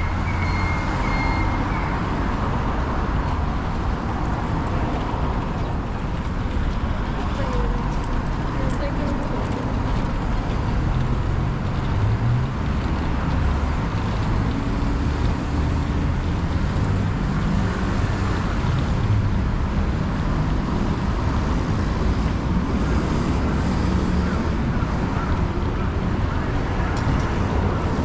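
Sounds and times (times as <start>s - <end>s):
street traffic hum: 0.0s - 28.0s.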